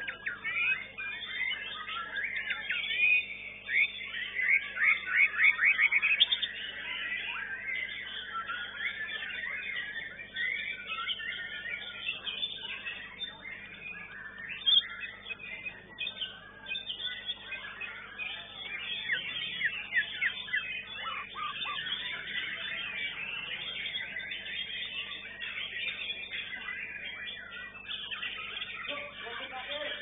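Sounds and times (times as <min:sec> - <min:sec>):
birds singing: 0:00.0 - 0:30.0.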